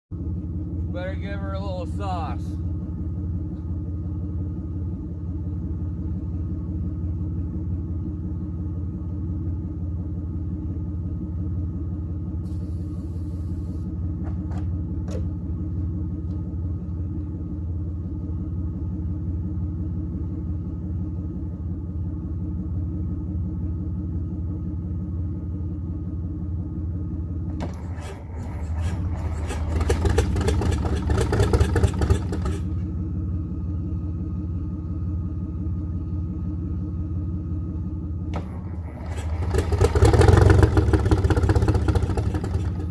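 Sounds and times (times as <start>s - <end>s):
diesel engine idling and revving: 0.0s - 42.9s.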